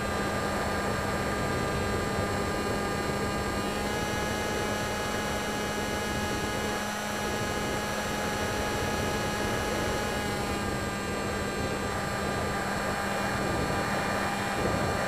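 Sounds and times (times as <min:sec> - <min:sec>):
electric motor and propeller hum: 0:00.0 - 0:15.0.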